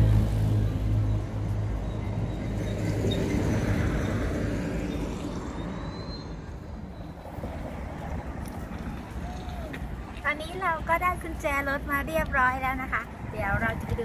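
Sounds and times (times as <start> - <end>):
road and tyre noise: 0.0 - 14.0
vehicle engine hum: 0.0 - 14.0.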